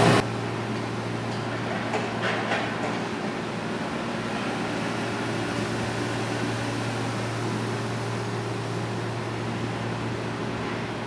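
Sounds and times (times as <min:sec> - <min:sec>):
electric railcar humming: 0:00.0 - 0:11.0.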